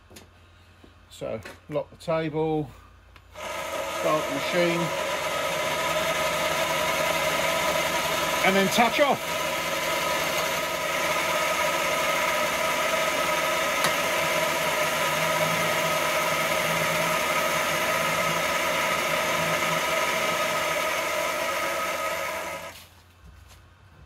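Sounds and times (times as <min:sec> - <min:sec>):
milling machine spindle whine: 0:03.4 - 0:22.8.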